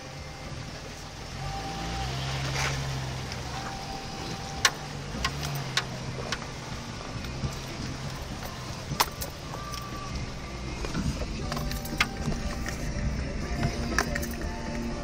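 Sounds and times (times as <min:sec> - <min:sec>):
engine running low: 0:00.0 - 0:15.0
tyres crunching on rocks: 0:02.3 - 0:15.0.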